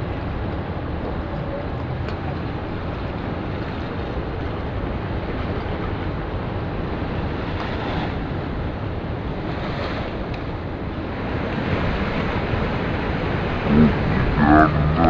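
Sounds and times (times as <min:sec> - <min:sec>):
ocean surf: 0:00.0 - 0:15.0
wind noise on microphone: 0:00.0 - 0:15.0.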